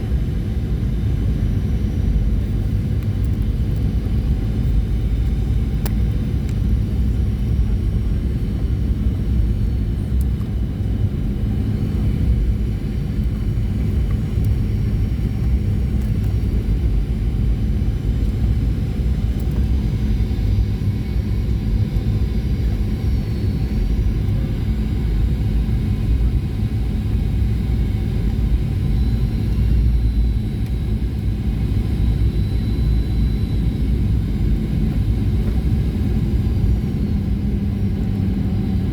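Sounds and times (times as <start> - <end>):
jet engine rumble: 0.0 - 38.9.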